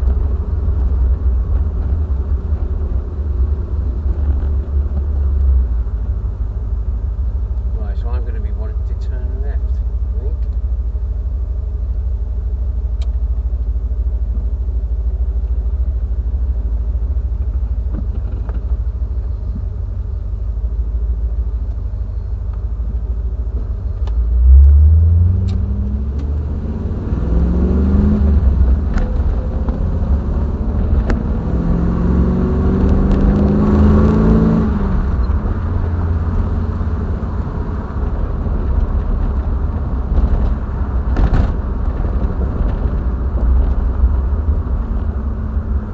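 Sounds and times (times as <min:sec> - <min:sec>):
car engine rumbling and revving: 0:00.0 - 0:45.9.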